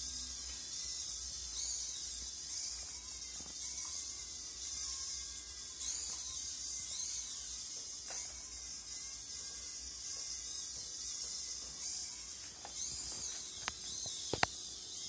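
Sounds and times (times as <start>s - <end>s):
gear motors whining: 0.0s - 15.0s.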